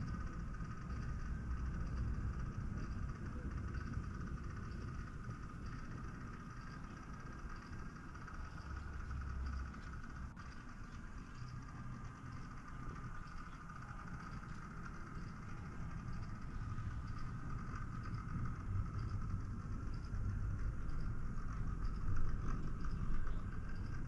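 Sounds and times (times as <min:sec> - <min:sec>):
model train rumbling: 0:00.0 - 0:24.0
model train whine: 0:00.0 - 0:24.0.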